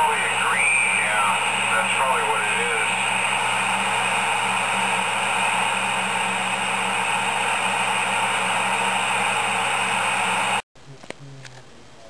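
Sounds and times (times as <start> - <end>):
low hum: 0.0 - 10.6
radio static hiss: 0.0 - 10.6.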